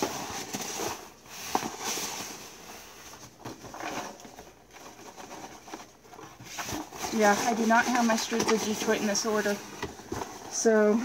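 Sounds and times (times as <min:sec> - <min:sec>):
paper mailer rustling: 0:00.0 - 0:11.0.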